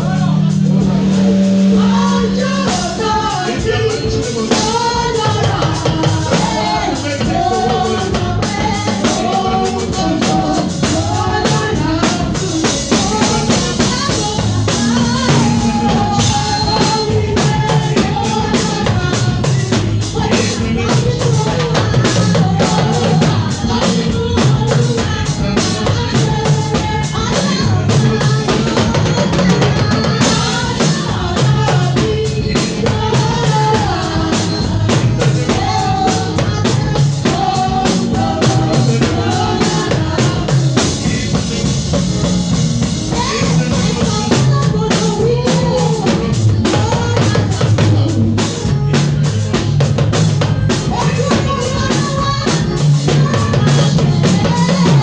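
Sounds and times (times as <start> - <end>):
person singing: 0.0 - 41.8, 43.1 - 49.5
bass line: 0.0 - 55.0
drum kit beat: 0.0 - 55.0.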